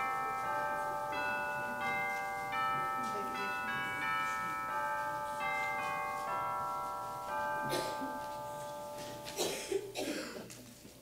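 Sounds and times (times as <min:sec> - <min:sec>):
chimes ringing: 0:00.0 - 0:10.0.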